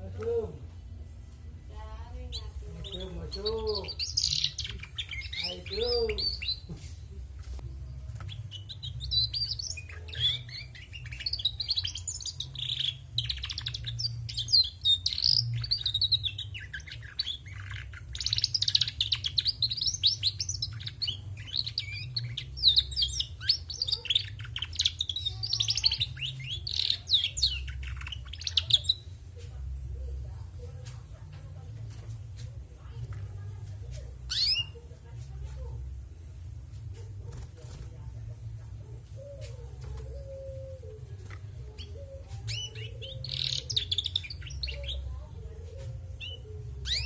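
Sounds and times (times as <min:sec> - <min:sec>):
canary twittering and trilling: 0:01.8 - 0:47.0.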